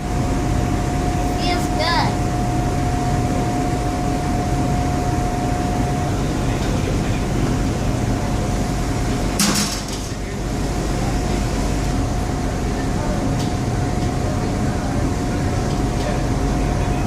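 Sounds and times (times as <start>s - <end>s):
boat engine droning: 0.0s - 9.4s, 10.1s - 17.0s.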